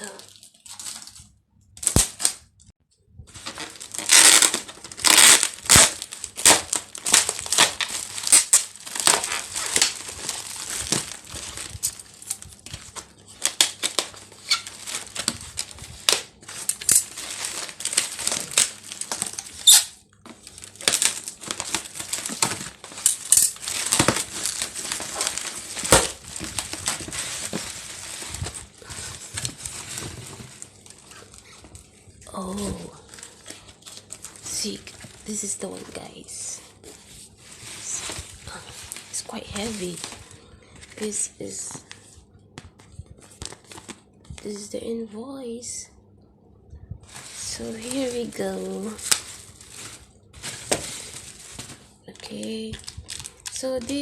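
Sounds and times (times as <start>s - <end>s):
bubble wrap crinkling and tearing: 0.0s - 2.5s, 3.3s - 44.7s, 47.0s - 54.0s.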